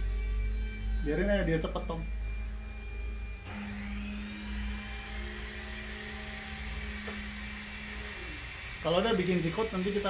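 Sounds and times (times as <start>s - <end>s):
electric motor whirring: 0.0s - 10.0s
steady low hum: 0.0s - 10.0s.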